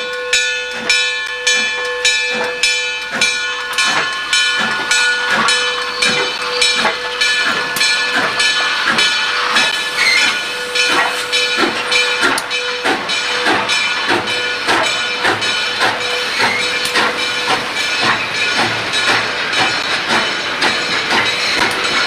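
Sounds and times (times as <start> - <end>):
steam locomotive exhaust chuffs: 0.0 - 22.0
steam hissing: 2.3 - 22.0.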